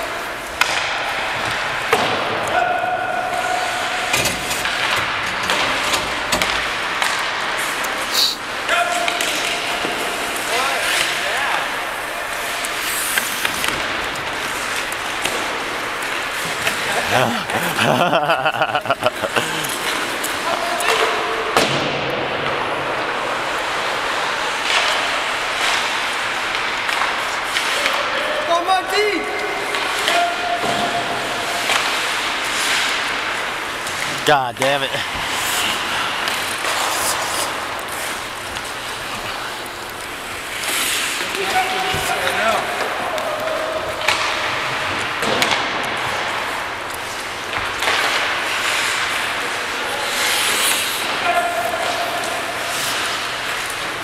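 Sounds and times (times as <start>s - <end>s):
skates scraping on ice: 0.0s - 21.6s, 22.4s - 28.3s, 28.9s - 54.0s.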